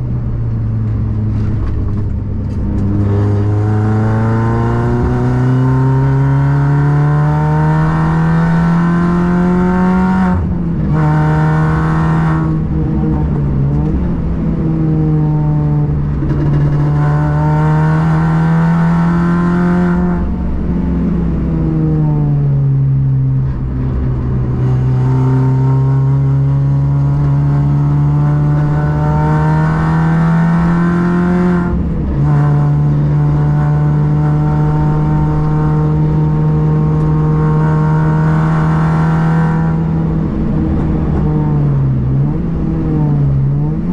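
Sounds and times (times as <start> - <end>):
car engine revving at full throttle: 0.0 - 43.9.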